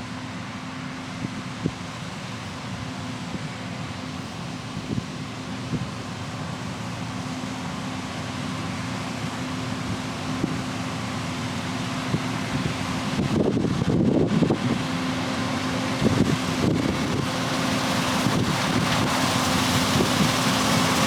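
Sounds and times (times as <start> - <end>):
combine harvester drone: 0.0 - 21.0.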